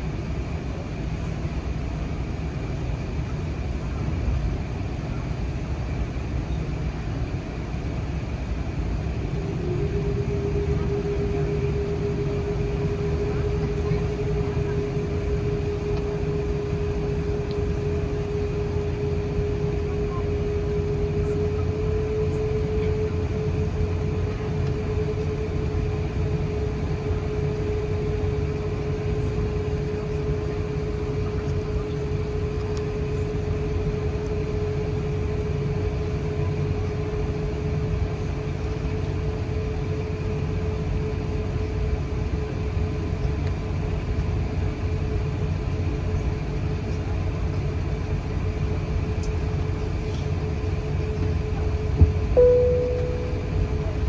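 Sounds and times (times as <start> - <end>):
aircraft engines rumbling: 0.0 - 54.0
constant cabin hum: 0.0 - 54.0.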